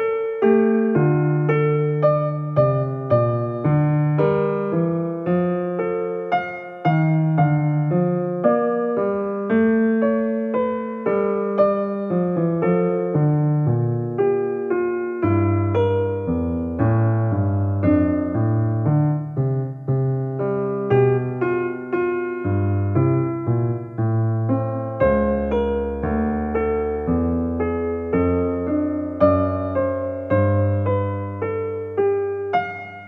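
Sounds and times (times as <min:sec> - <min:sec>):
gentle piano melody: 0:00.0 - 0:33.0.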